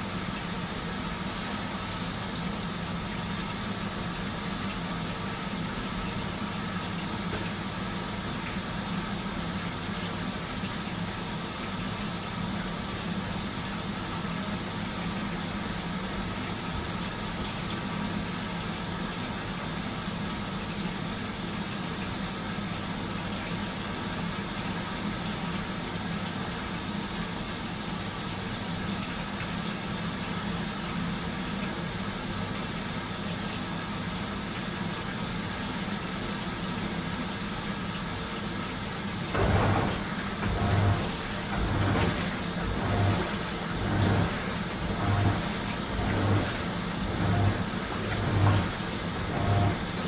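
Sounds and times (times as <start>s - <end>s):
washing machine running: 0.0s - 50.0s.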